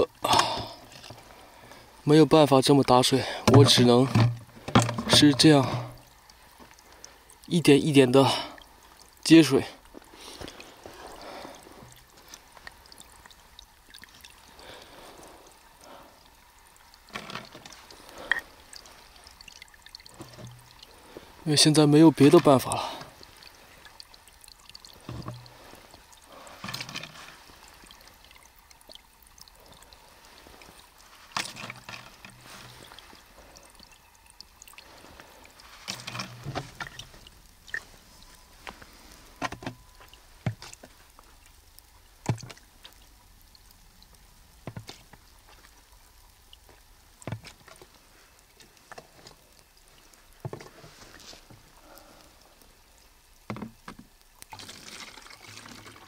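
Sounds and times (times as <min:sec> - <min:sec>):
water pouring into plastic jug: 0:00.0 - 0:56.0.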